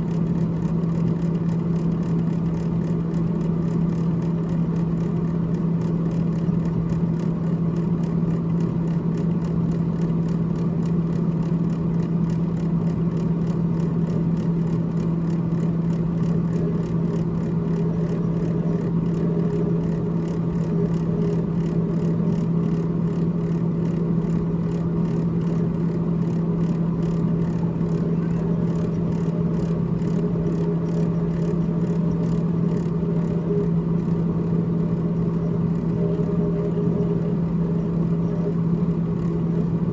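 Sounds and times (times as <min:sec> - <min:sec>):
refrigerator fan humming: 0:00.0 - 0:39.9.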